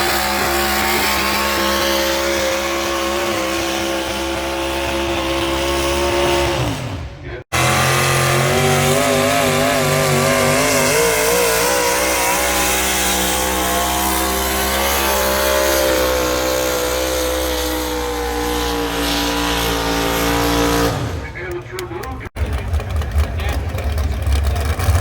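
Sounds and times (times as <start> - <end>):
tractor engine under load: 0.0 - 25.0.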